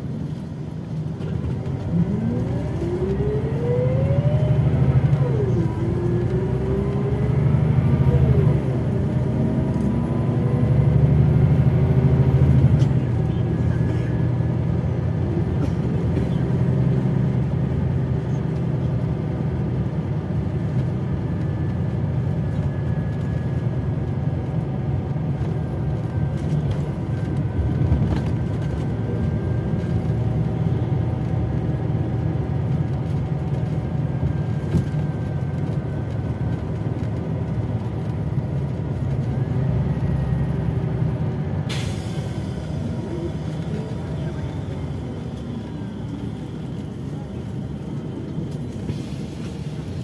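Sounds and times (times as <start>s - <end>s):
bus engine and tyres rumbling: 0.0s - 50.0s.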